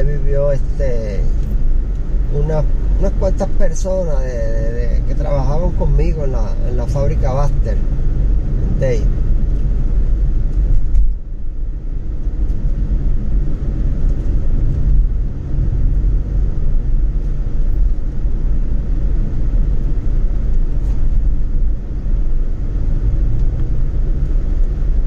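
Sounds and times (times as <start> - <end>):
car interior road rumble: 0.0 - 25.0.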